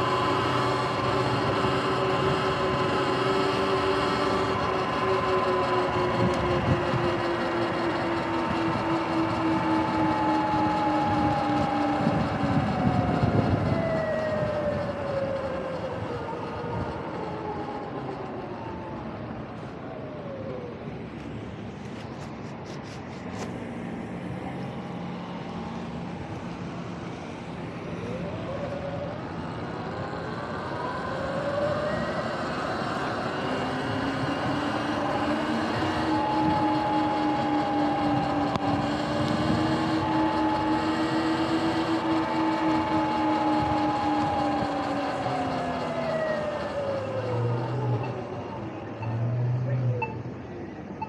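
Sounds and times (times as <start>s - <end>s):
electric motorbike motor whine: 0.0s - 50.6s
wind: 0.0s - 51.0s.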